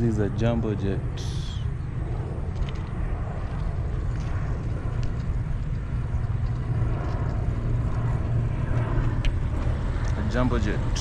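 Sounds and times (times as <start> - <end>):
jet airliner flying overhead: 0.0 - 11.0.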